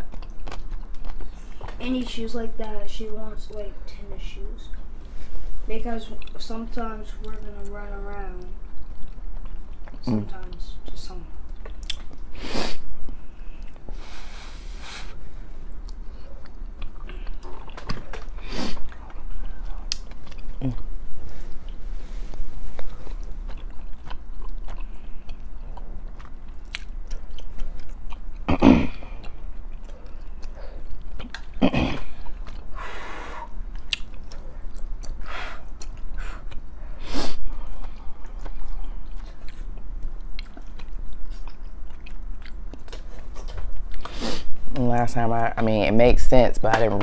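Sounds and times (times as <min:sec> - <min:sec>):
chewing and eating: 0:00.0 - 0:03.6, 0:04.6 - 0:14.0, 0:15.2 - 0:44.9.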